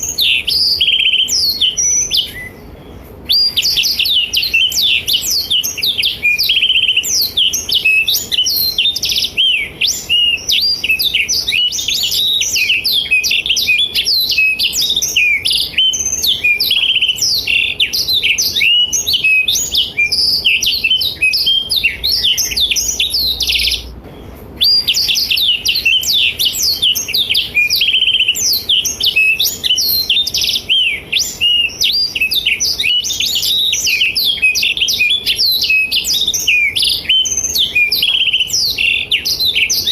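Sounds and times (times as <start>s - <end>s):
canary singing rapid chirps: 0.0s - 39.9s.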